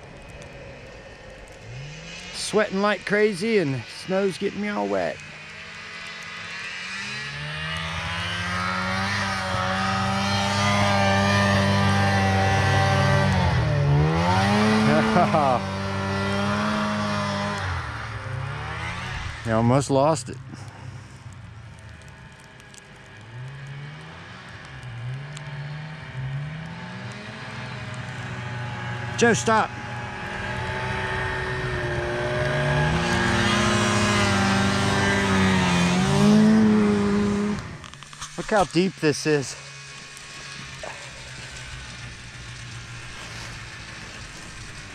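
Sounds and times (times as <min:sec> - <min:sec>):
snowmobile engine: 0:00.0 - 0:44.9.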